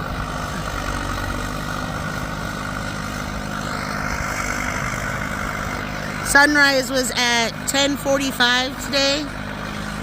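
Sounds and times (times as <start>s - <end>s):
bulldozer diesel engine running: 0.0s - 10.0s.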